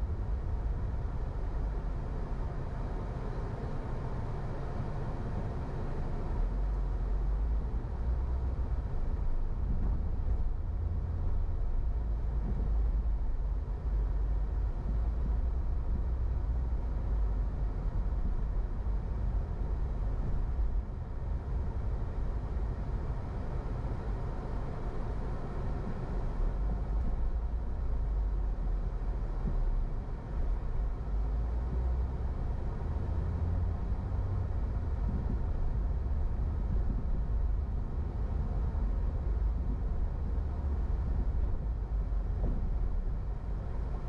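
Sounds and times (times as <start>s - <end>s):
car driving rumble: 0.0s - 44.0s.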